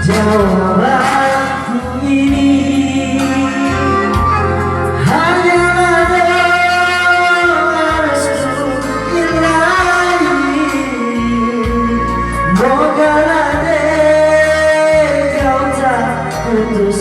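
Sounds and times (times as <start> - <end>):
person singing: 0.0 - 17.0
slow gliding melody: 0.0 - 17.0.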